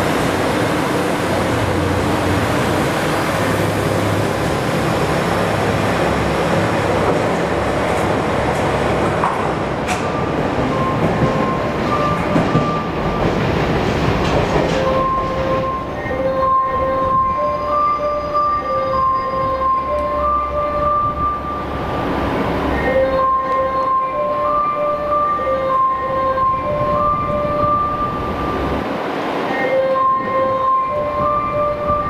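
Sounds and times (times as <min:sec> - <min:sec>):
diesel trains rumbling on rail: 0:00.0 - 0:32.0.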